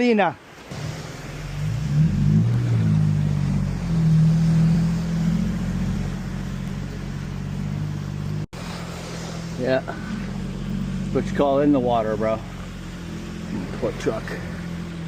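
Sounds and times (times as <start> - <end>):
vehicle engine running hard: 0.7 - 15.0.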